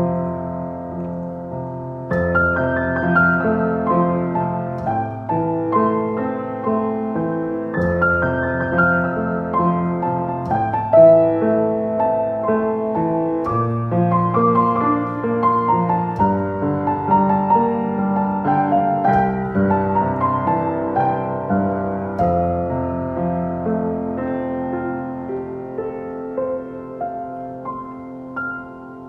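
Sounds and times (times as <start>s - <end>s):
slow solo piano piece: 0.0s - 29.0s.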